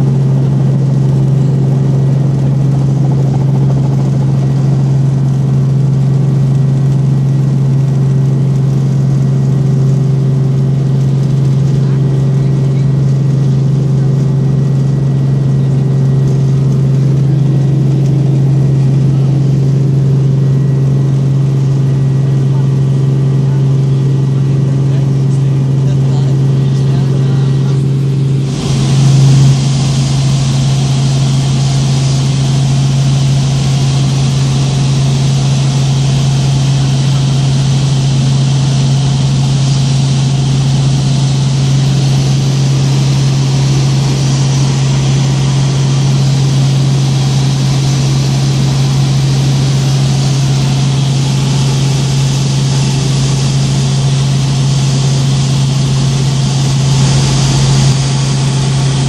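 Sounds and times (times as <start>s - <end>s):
helicopter engine and rotors droning: 0.0s - 59.0s.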